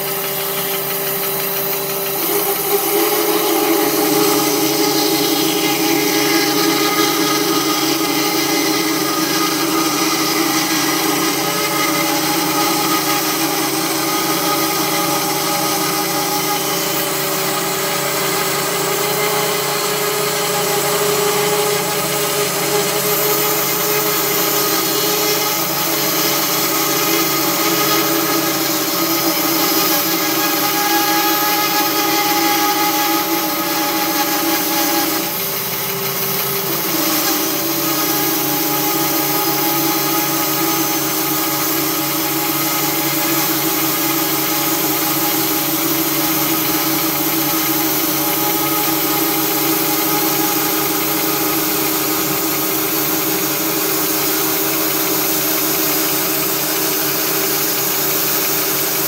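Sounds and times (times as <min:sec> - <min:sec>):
band sawmill cutting log: 0:00.0 - 0:59.0.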